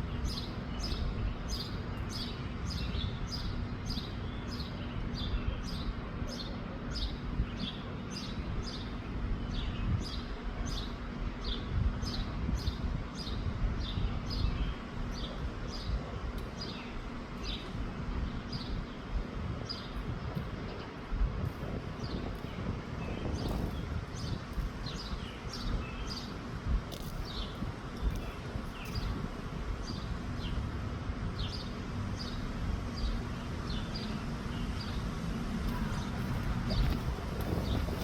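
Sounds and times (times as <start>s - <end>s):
wind on microphone: 2.6s - 31.6s, 32.2s - 38.0s.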